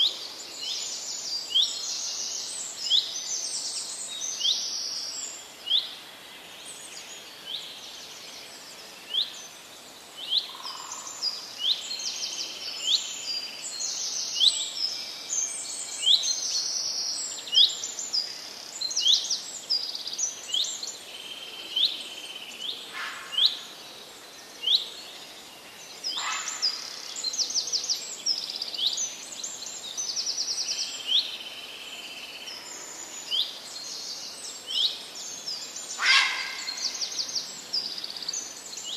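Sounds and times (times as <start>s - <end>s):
background hiss: 0.0s - 38.9s
birds chirping and trilling: 0.0s - 38.9s.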